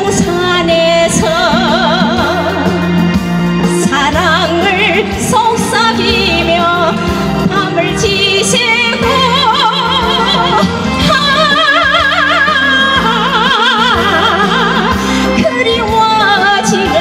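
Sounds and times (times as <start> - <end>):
instrumental backing with bass line: 0.0 - 17.0
woman singing with vibrato: 0.0 - 17.0.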